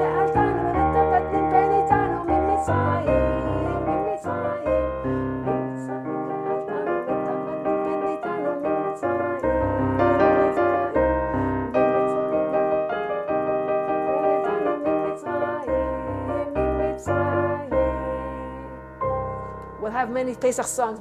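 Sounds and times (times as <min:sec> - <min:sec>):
electronic keyboard melody: 0:00.0 - 0:20.8.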